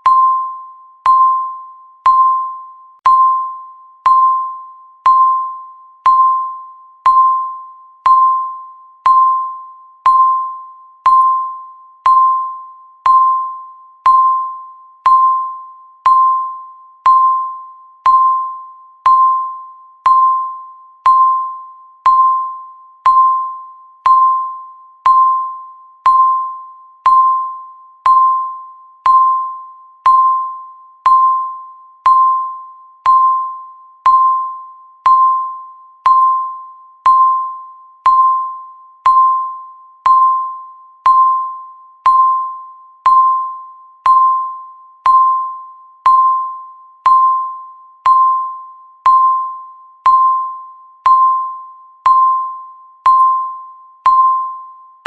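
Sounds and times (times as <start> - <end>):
electronic timer beep: 0.0 - 55.0.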